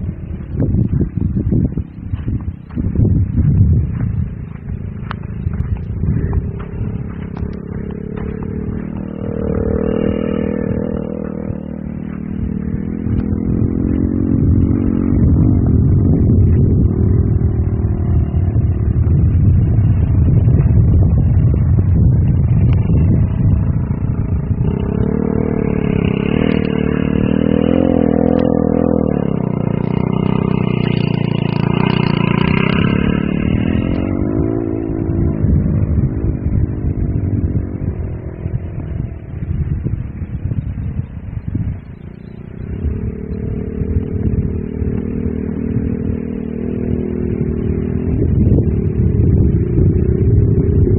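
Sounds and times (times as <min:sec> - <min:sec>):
off-road vehicle engine revving: 0:00.0 - 0:50.9.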